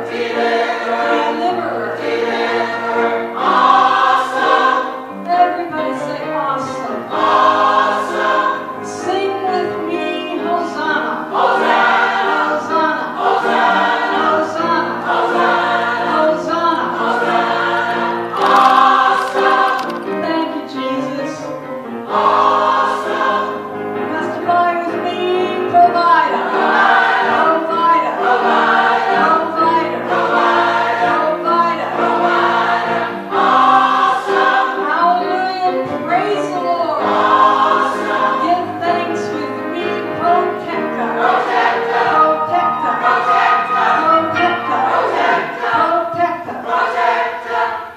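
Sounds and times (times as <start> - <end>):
gospel choir singing in harmony: 0.0 - 47.9.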